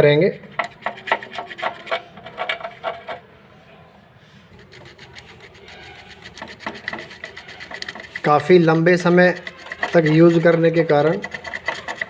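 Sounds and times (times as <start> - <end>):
sandpaper rubbing on metal: 0.6 - 3.1, 4.5 - 12.0.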